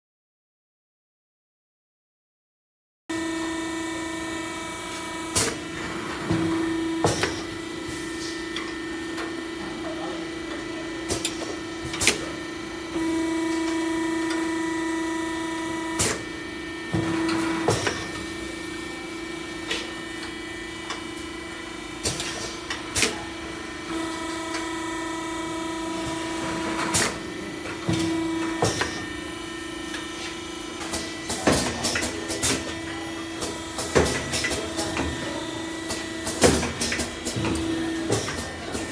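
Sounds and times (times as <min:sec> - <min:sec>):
filling machine motor hum: 0:03.1 - 0:38.9.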